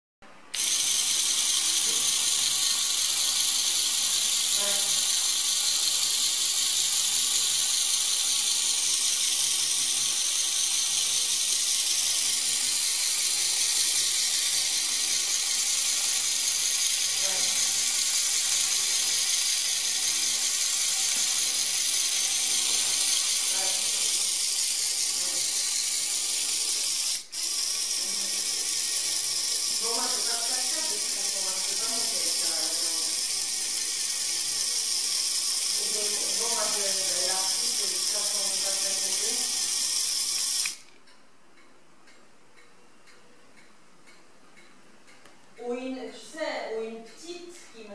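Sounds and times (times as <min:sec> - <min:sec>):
toy motor whirring: 0:00.5 - 0:41.0.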